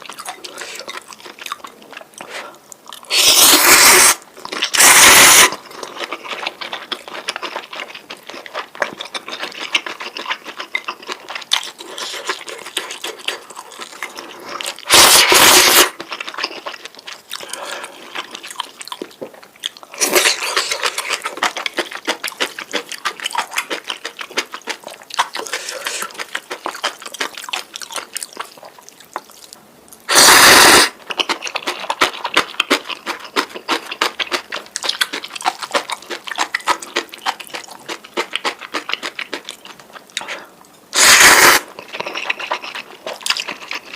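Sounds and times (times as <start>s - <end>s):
wet chewing: 0.0s - 43.9s
noodle slurping: 0.2s - 18.8s, 19.9s - 28.7s, 30.1s - 39.4s, 40.2s - 43.9s.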